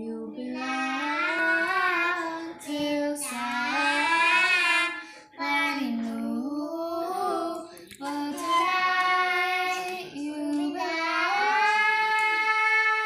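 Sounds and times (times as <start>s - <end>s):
girl singing long notes: 0.0s - 13.0s.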